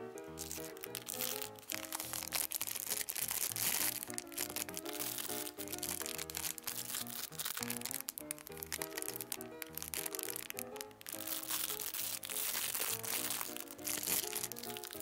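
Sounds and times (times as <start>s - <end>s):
bouncy background music: 0.0s - 15.0s
plastic candy wrappers crinkling: 0.0s - 15.0s.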